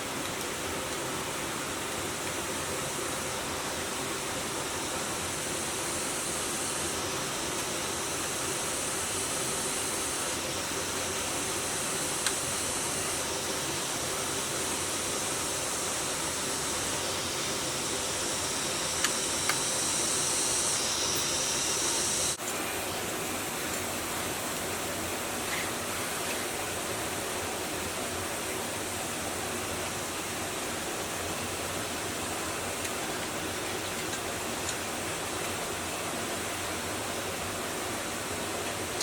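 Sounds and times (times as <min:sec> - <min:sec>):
steady rushing hiss: 0:00.0 - 0:39.0.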